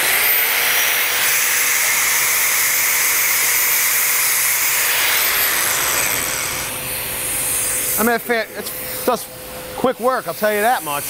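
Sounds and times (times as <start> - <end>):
angle grinder sanding wood: 0.0 - 9.1.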